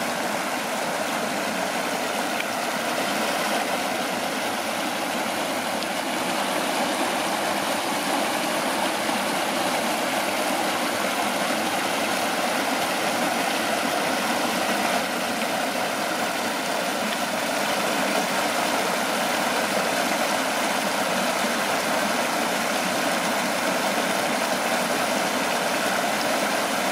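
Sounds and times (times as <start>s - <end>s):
river water rushing over weir: 0.0s - 26.9s.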